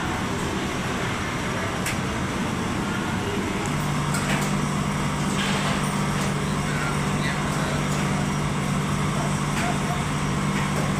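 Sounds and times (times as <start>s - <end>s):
kitchen machinery running: 0.0s - 10.9s.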